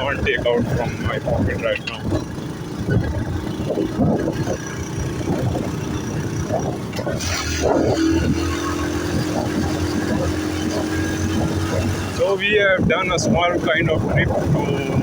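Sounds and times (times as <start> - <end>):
motorbike engine running: 0.0 - 15.0
road and wind noise: 0.0 - 15.0.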